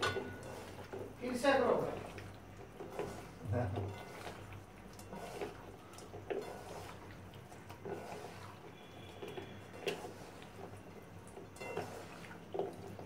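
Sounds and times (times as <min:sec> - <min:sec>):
wet squishing: 0:00.4 - 0:13.0.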